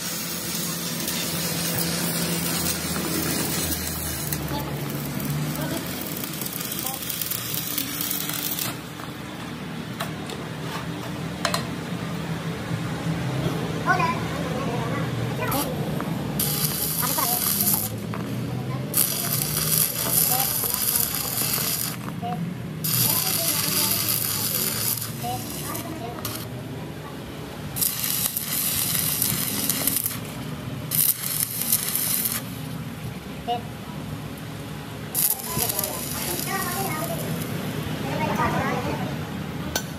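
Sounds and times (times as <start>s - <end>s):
welding arc crackling and hissing: 0.0s - 10.4s, 15.1s - 38.6s.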